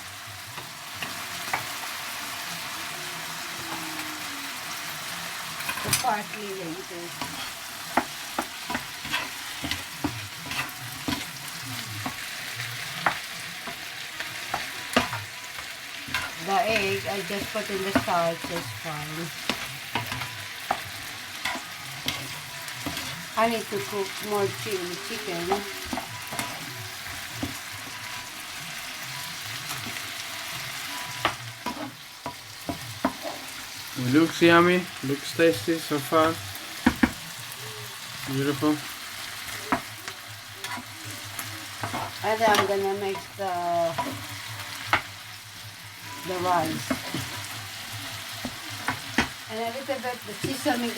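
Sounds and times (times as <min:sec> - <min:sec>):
chicken sizzling in a pan: 0:00.0 - 0:50.9.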